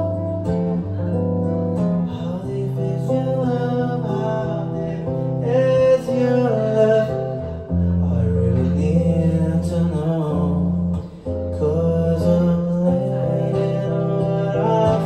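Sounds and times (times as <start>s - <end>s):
acoustic guitar: 0.0s - 15.0s
man singing a slow ballad: 0.0s - 15.0s.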